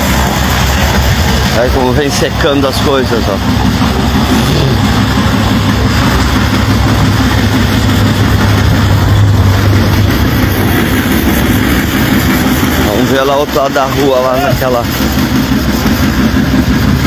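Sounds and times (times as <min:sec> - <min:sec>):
constant rushing noise: 0:00.0 - 0:17.0
vehicle engine running: 0:00.0 - 0:17.0.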